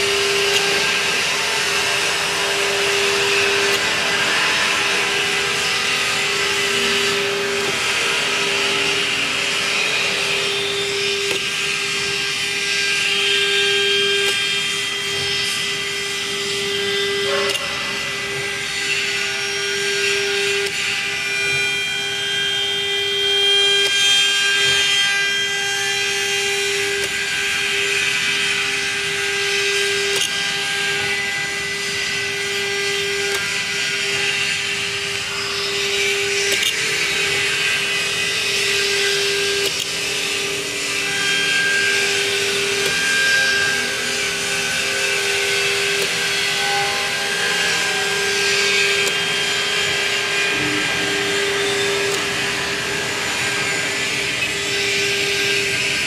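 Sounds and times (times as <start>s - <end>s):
router spindle whine: 0.0s - 56.0s.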